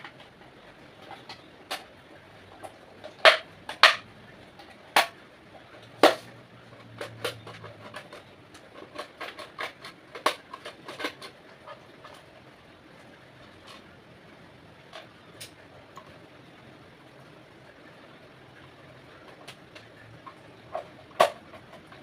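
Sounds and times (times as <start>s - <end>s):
hard objects clicking and knocking: 0.0s - 14.0s, 14.8s - 16.2s, 18.5s - 22.0s.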